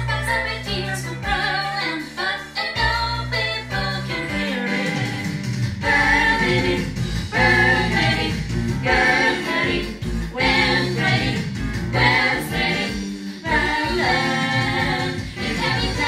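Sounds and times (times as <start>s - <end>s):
vocal chorus singing jazz harmony: 0.0s - 16.0s.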